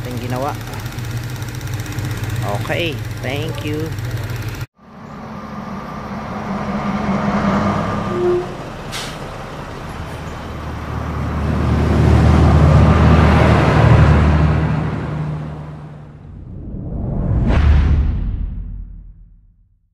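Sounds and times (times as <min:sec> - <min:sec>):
bus engine running: 0:00.0 - 0:16.3.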